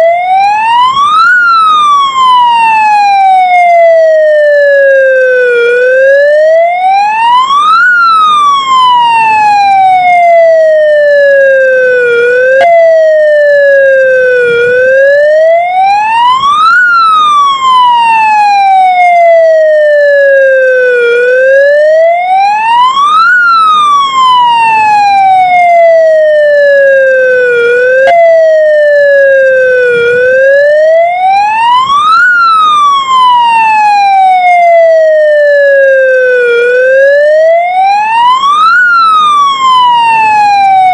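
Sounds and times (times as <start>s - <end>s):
ambulance siren wailing: 0.0s - 40.9s.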